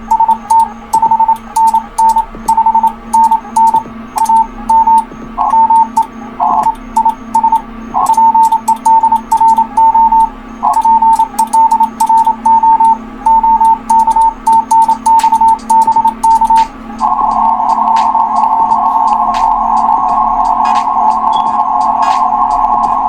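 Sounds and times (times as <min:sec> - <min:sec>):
low hum and hiss: 0:00.0 - 0:23.0
morse code tone: 0:00.0 - 0:23.0
rough radio blips: 0:00.0 - 0:23.0.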